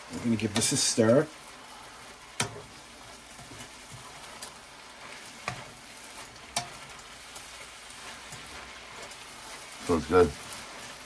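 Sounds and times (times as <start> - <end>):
mushrooms sizzling in a pan: 0.0 - 11.0.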